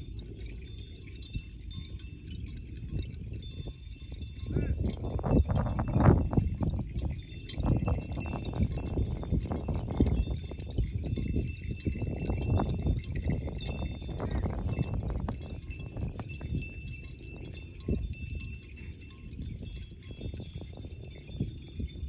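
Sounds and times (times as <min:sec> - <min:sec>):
low wind rumble: 0:00.0 - 0:22.0.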